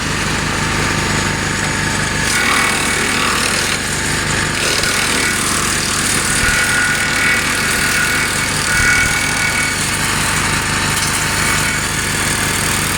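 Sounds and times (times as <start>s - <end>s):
chipper shredder clattering: 0.0s - 12.9s
garden tractor engine running: 0.0s - 12.9s.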